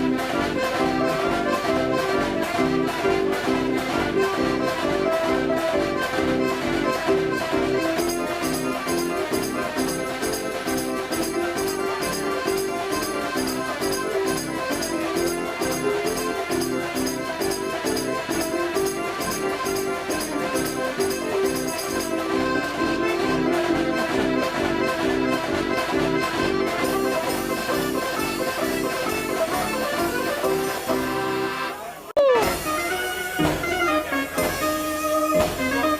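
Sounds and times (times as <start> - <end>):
fairground organ playing a tune: 0.0 - 35.9.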